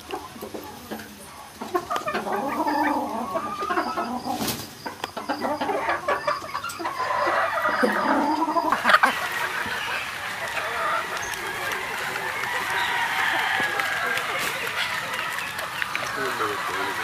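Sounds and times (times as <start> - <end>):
hens clucking and calling: 0.0 - 17.0.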